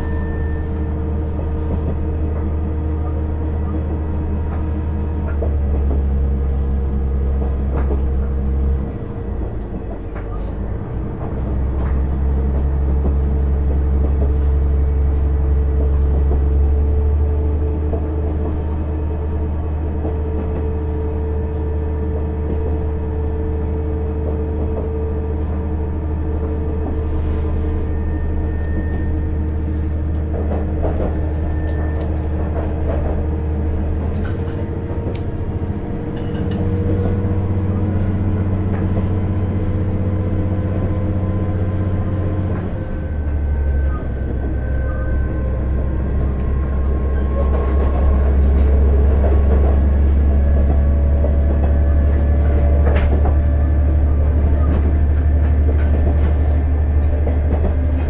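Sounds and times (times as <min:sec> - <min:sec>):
diesel railcar engine working hard: 0:00.0 - 0:58.0.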